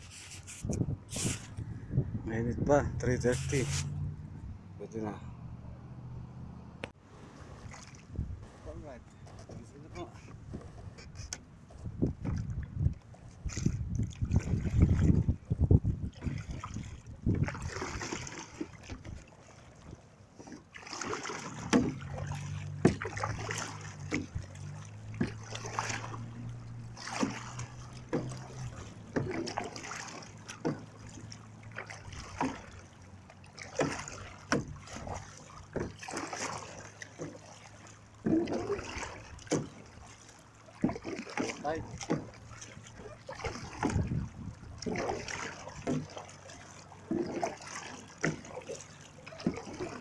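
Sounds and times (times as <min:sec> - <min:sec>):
water running off paddle: 0:00.0 - 0:01.7, 0:03.2 - 0:04.3, 0:07.0 - 0:50.0
kayak paddle splashing: 0:00.0 - 0:01.8, 0:03.2 - 0:05.8, 0:06.8 - 0:50.0.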